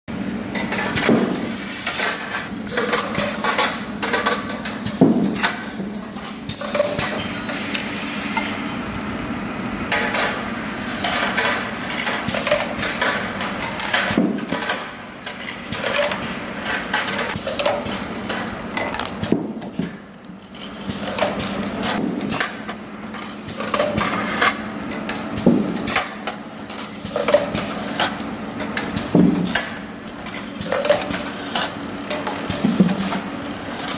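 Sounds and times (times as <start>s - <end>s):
machine hum: 0.1s - 33.9s.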